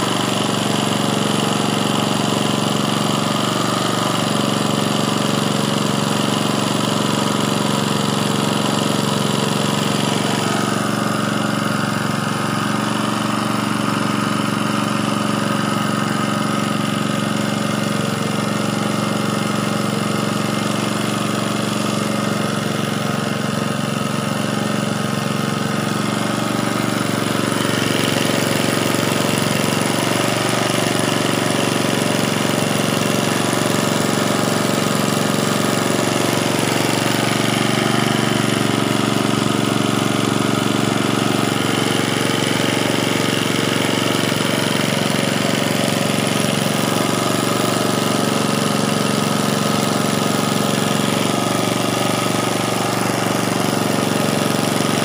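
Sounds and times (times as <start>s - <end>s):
small engine running steadily: 0.0s - 55.0s.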